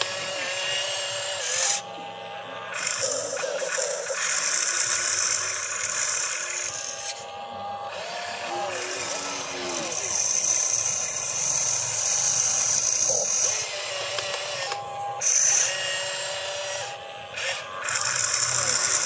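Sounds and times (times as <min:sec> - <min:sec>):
small electric motors whining: 0:00.0 - 0:19.0
steady high-pitched whine: 0:00.0 - 0:19.0.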